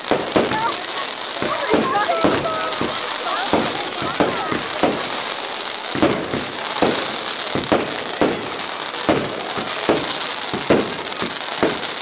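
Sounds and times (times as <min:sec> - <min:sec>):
crackling hiss: 0:00.0 - 0:12.0
fireworks bangs: 0:00.0 - 0:12.0.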